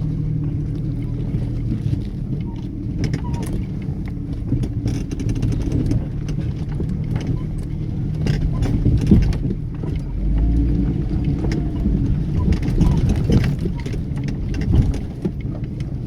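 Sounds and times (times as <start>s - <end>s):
vehicle body rattling over ruts: 0.0s - 16.0s
vehicle engine running: 0.0s - 16.0s.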